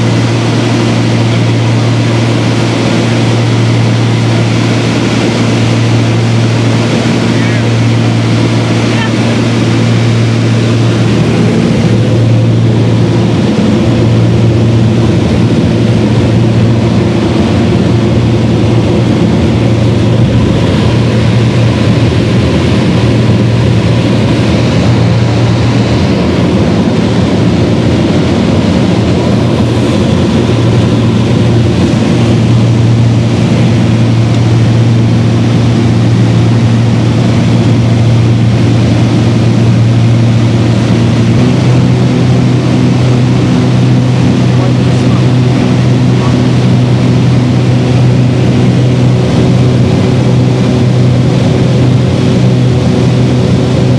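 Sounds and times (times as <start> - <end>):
aircraft engines droning in cabin: 0.0 - 53.9.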